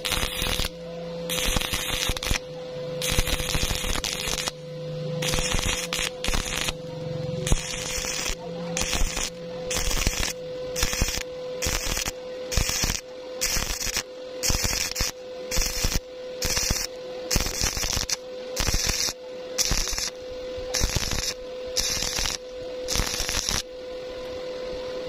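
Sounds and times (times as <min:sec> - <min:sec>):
welding arc crackling: 0:00.0 - 0:23.7
steady hum: 0:00.0 - 0:25.0.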